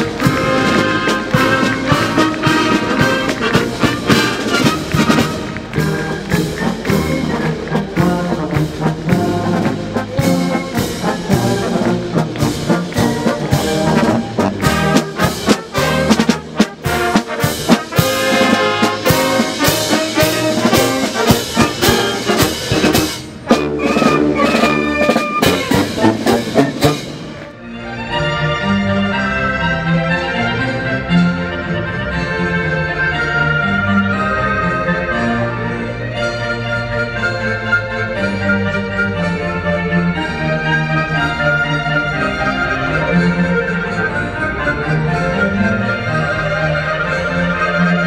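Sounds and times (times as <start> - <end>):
marching band playing: 0.0 - 48.0.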